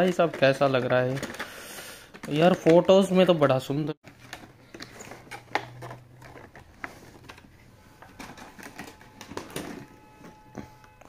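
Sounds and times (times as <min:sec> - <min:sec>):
plastic packaging clicks and crackles: 0:00.0 - 0:03.0, 0:04.0 - 0:09.9.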